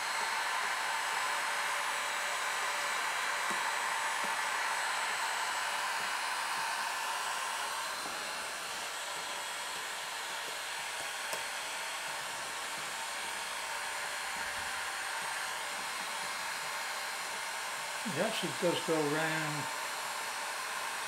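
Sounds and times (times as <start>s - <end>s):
heat gun blowing: 0.0s - 21.0s.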